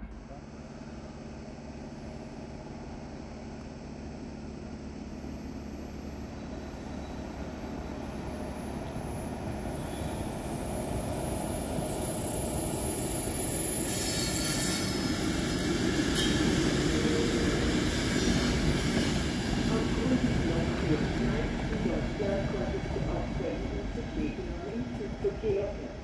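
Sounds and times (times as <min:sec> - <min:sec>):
train approaching: 0:00.0 - 0:26.0.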